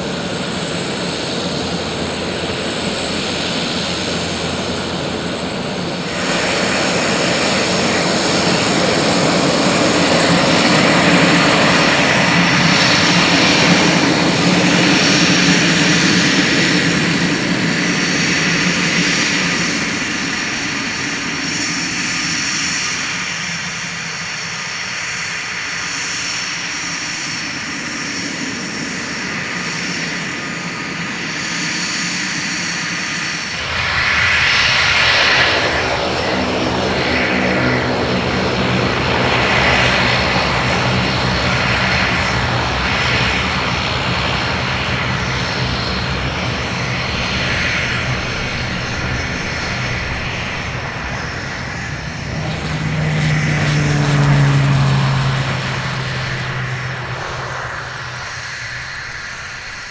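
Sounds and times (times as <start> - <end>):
loud propeller buzz: 0.0 - 25.1, 32.4 - 59.9
turboprop turbine whine: 0.0 - 59.9.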